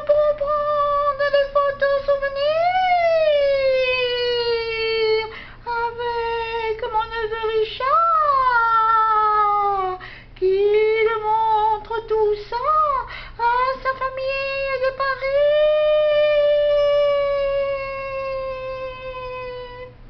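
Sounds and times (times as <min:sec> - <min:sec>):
high voice singing wordless notes: 0:00.0 - 0:20.0.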